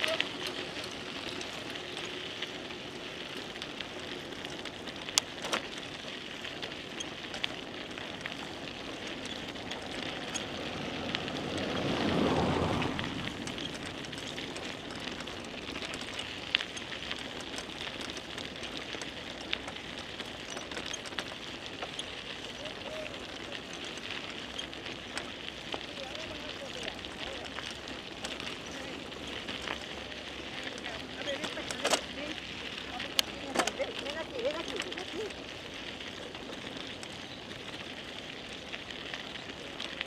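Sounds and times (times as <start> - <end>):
bicycle tyres rolling: 0.0 - 40.0.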